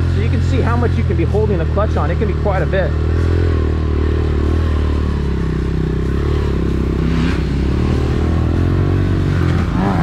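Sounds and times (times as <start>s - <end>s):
motorbike engine at low speed: 0.0s - 10.0s.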